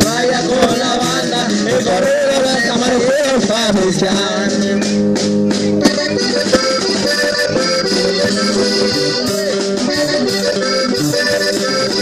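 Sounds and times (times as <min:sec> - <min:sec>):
accordion-led traditional band music: 0:00.0 - 0:12.0.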